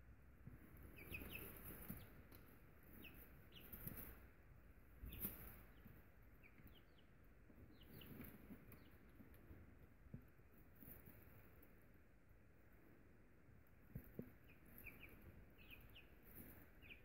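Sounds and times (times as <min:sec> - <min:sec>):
chicks peeping: 0:00.4 - 0:17.0.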